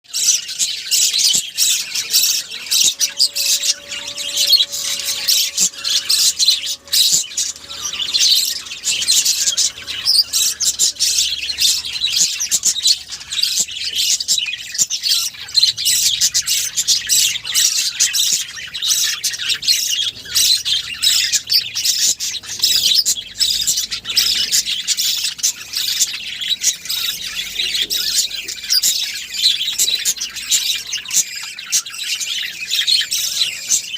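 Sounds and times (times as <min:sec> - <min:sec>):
flock of small birds chirping: 0:00.0 - 0:33.9.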